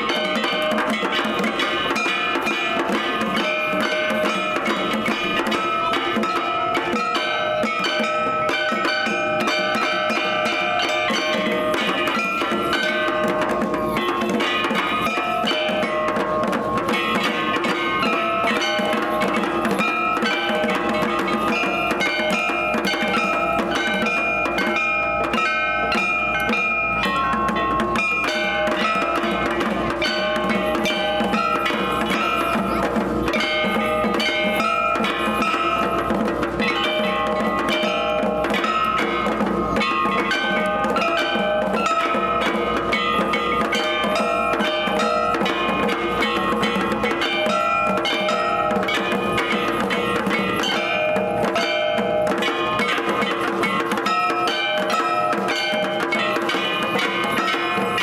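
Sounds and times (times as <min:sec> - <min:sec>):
drums and metal percussion: 0:00.0 - 0:58.0.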